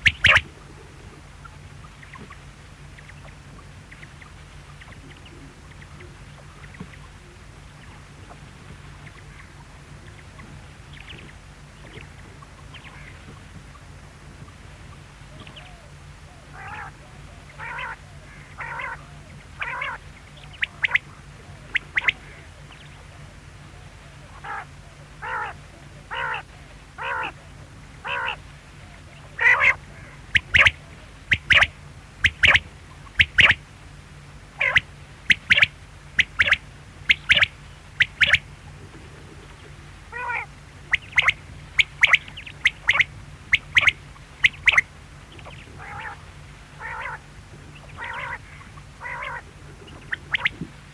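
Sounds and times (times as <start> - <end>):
quail calling: 0.0 - 33.6, 34.6 - 50.7
steady low hum: 0.0 - 50.9.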